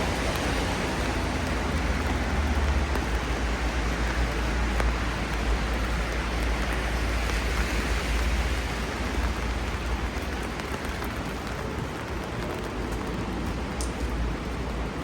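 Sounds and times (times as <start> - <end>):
rain falling on street: 0.0 - 15.0.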